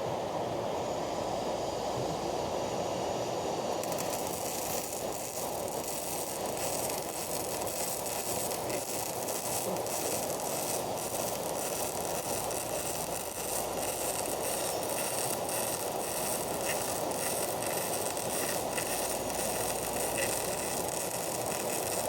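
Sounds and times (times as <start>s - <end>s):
arc welding crackling hiss: 2.6s - 22.0s.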